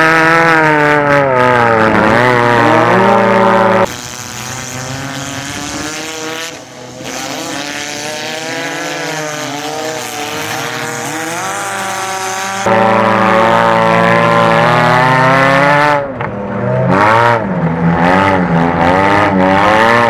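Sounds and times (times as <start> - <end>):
race car engines revving: 0.0 - 20.0.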